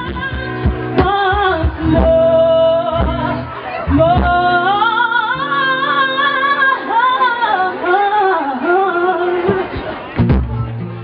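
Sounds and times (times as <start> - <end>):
woman singing into a microphone: 0.0 - 9.9.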